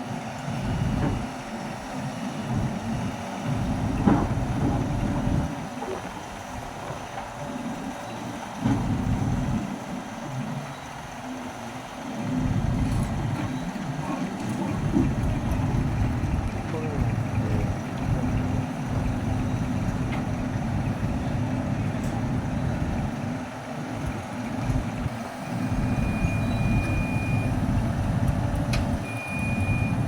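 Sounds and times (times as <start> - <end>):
excavator diesel engine running: 0.0 - 30.0
wind buffeting microphone: 0.4 - 7.9, 12.2 - 29.0.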